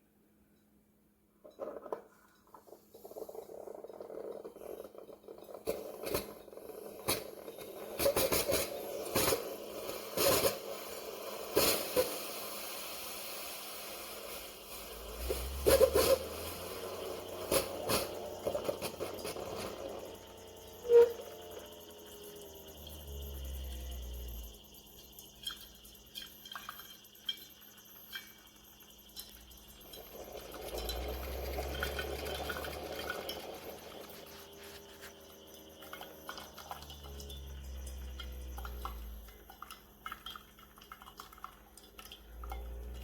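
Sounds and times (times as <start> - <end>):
coffee maker pump humming: 1.5 - 43.0.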